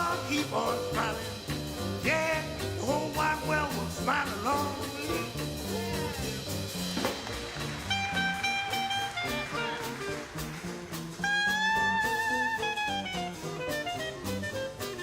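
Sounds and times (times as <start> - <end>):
upbeat swing music: 0.0 - 15.0.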